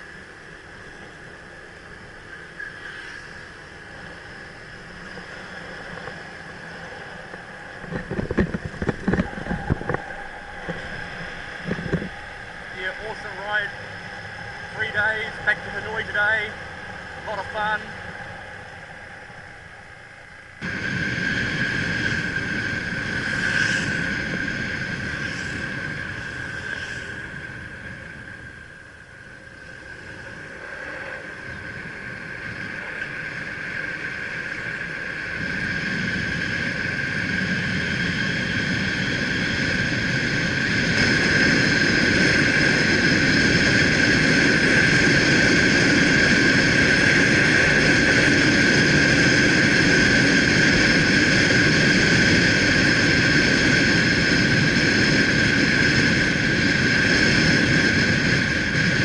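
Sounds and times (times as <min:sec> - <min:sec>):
steady high whine: 0:00.0 - 0:59.0
wind noise on microphone: 0:00.0 - 0:59.0.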